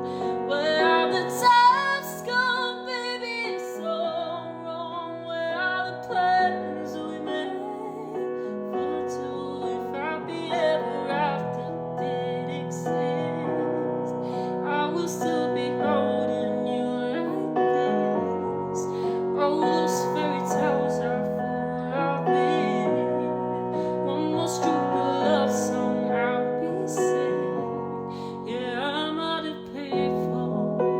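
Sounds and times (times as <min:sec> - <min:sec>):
piano chords: 0:00.0 - 0:30.9
woman singing: 0:00.0 - 0:30.9.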